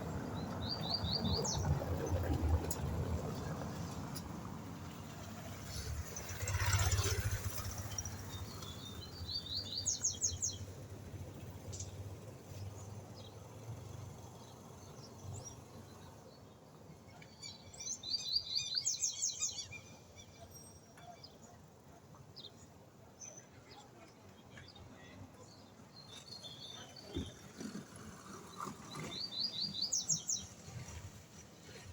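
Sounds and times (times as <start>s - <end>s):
small birds singing: 0.0s - 2.4s, 5.6s - 31.9s.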